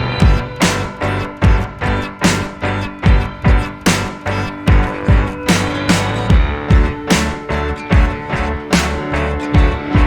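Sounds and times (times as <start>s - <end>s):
music with fast drum beat: 0.0s - 10.0s.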